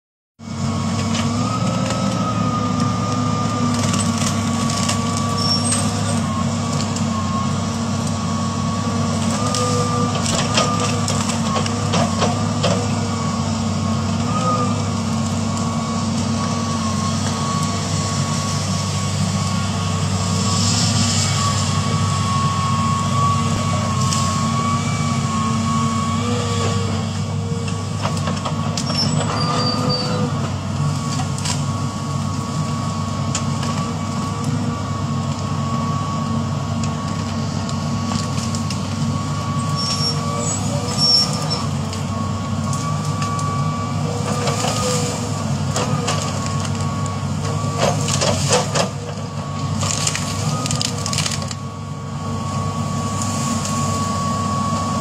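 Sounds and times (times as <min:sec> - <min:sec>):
excavator diesel engine running: 0:00.4 - 0:55.0.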